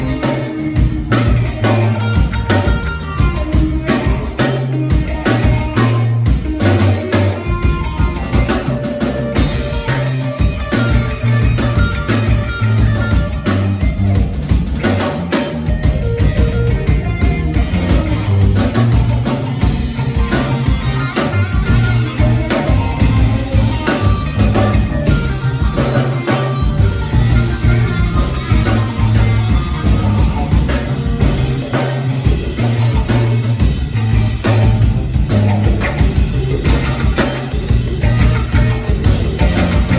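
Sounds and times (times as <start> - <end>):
bass: 0.0 - 39.9
drum kit beat: 0.0 - 39.9
live rock band playing: 0.0 - 39.9.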